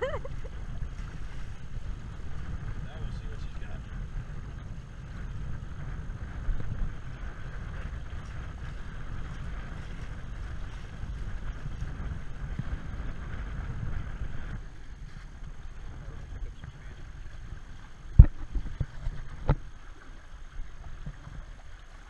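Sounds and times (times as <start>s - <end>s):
wind buffeting microphone: 0.0s - 21.8s
water rushing along hulls: 0.0s - 22.0s.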